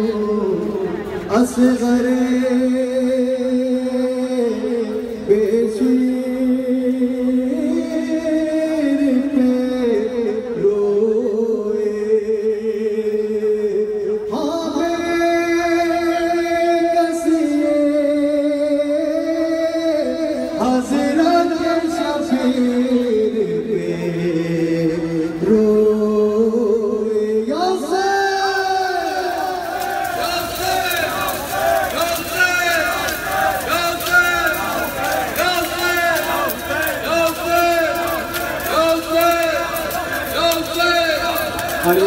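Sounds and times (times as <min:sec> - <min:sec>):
person singing a mourning lament: 0:00.0 - 0:42.0.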